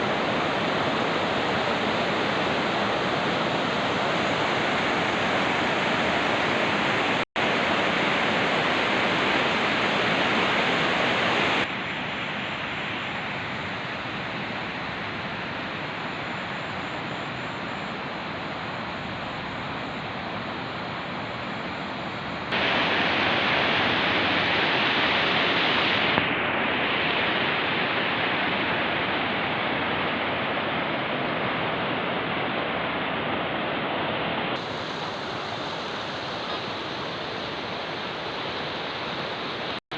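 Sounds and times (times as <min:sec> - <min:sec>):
river water roaring: 0:00.0 - 0:39.9.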